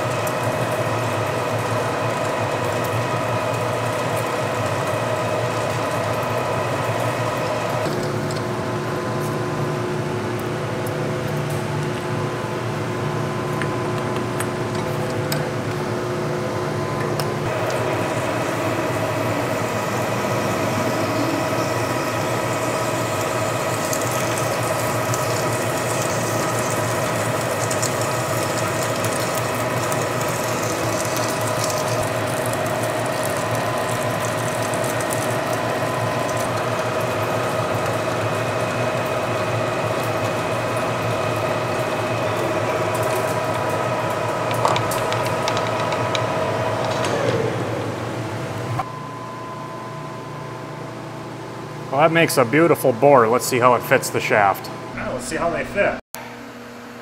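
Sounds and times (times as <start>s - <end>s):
lathe gear whine: 0.0s - 57.0s.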